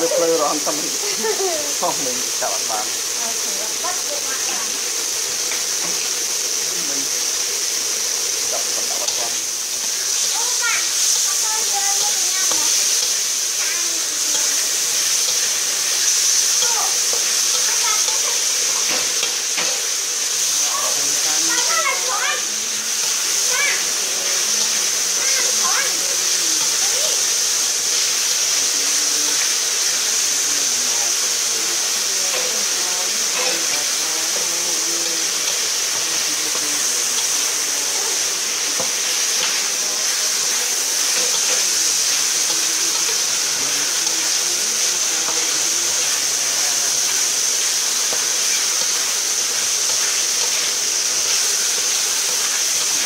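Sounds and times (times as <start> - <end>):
meat sizzling in a wok: 0.0 - 53.0.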